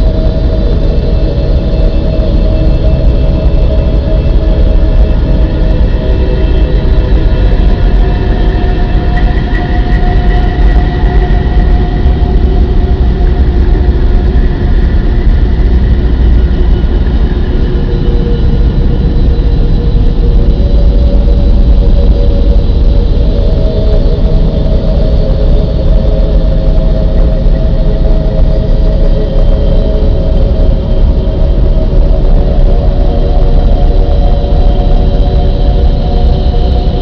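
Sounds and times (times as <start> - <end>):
faint sustained tones: 0.0 - 37.0
low rumbling drone: 0.0 - 37.0.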